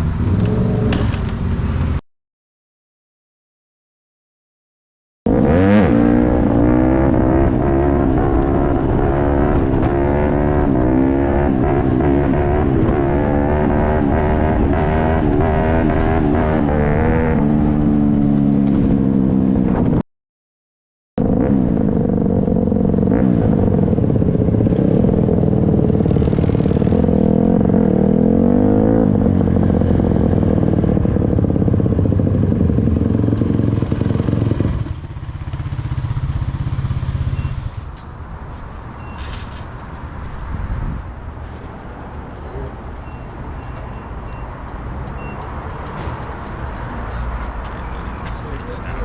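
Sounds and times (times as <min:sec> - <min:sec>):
motorcycle engine revving: 0:00.0 - 0:02.0, 0:05.3 - 0:20.0, 0:21.2 - 0:49.0
street noise: 0:00.0 - 0:02.0, 0:05.3 - 0:20.0, 0:21.2 - 0:49.0.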